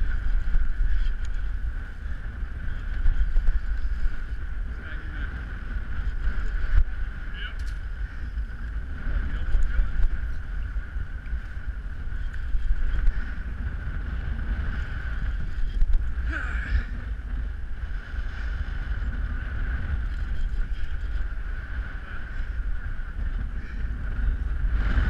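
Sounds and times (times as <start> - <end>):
steady hum: 0.0 - 25.0
wind buffeting microphone: 0.0 - 25.0.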